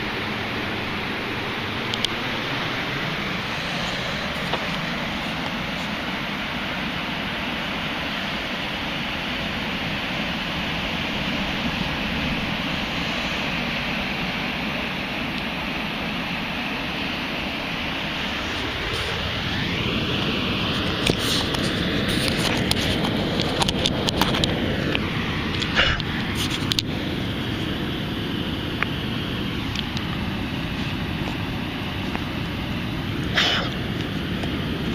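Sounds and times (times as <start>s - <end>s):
ocean surf on beach: 0.0s - 34.9s.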